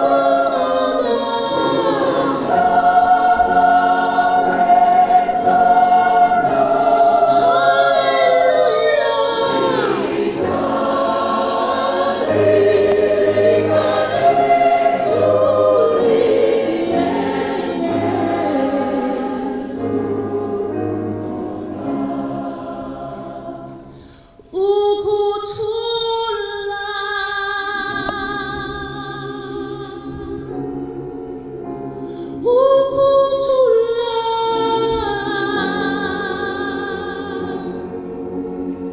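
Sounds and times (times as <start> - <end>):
choir singing in parts: 0.0 - 24.1, 27.8 - 32.0, 32.8 - 38.9.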